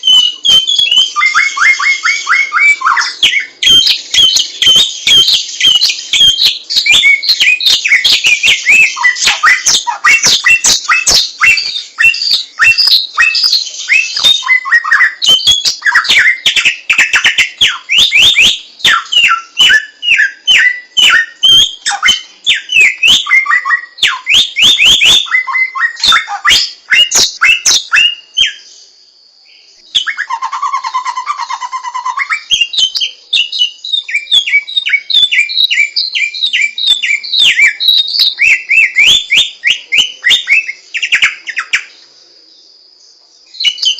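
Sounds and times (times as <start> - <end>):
low buzzy bird trill: 0.0 - 43.9
songbird singing chirps and trills: 0.0 - 43.9.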